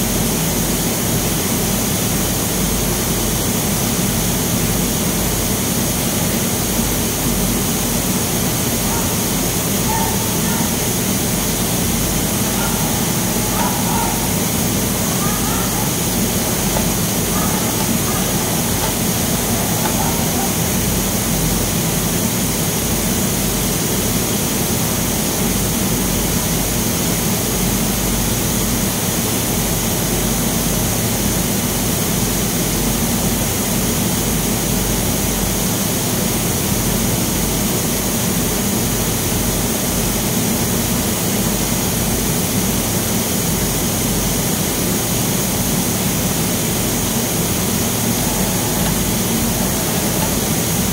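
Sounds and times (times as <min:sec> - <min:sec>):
industrial machinery drone: 0:00.0 - 0:32.7, 0:40.9 - 0:50.9.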